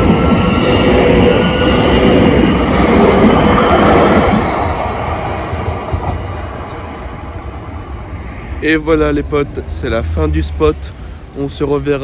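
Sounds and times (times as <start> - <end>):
train passing on rails: 0.0 - 12.0.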